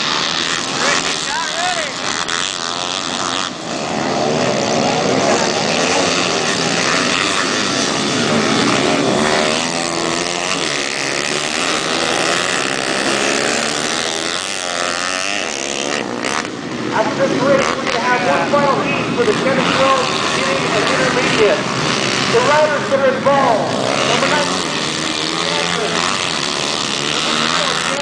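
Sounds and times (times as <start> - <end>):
motorbike engines revving: 0.0 - 28.0.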